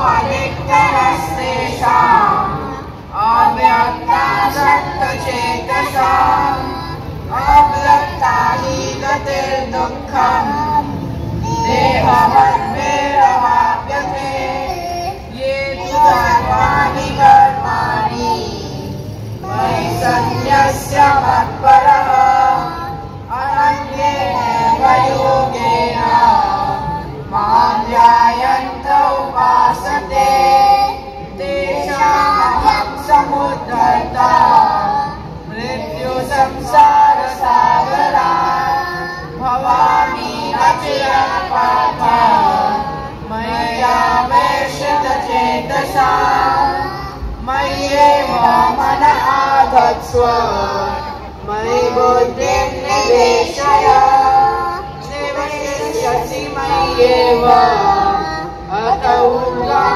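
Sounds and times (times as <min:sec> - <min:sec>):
children singing: 0:00.0 - 0:59.9.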